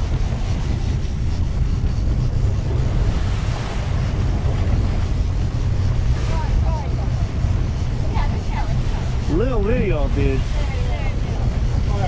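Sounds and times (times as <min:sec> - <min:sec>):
outboard motors droning: 0:00.0 - 0:12.0
water rushing past hull: 0:00.0 - 0:12.0
wind buffeting microphone: 0:00.0 - 0:12.0.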